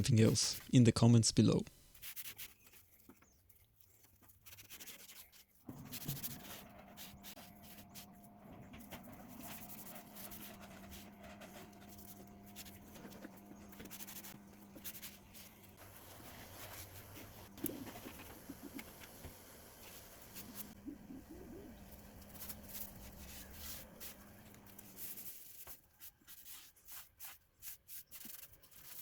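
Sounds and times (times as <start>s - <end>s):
rubbing and scratching: 0.0s - 1.2s, 1.9s - 29.0s.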